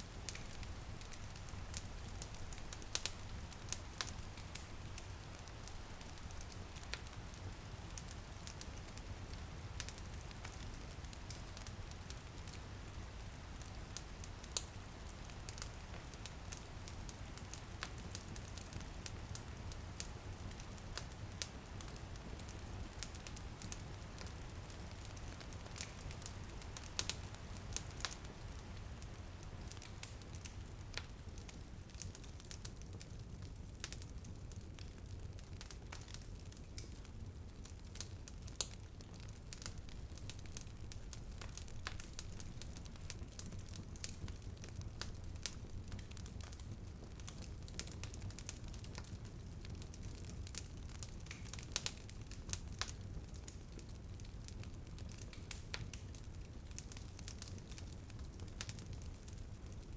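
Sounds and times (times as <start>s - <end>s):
low rumble of flames: 0.0s - 59.9s
rain pattering on a window: 0.0s - 59.9s
wood fire crackling and popping: 0.0s - 59.9s.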